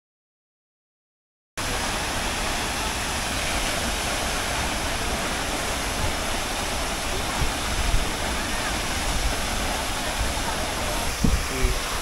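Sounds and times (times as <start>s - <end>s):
waterfall rushing water: 1.6s - 12.0s.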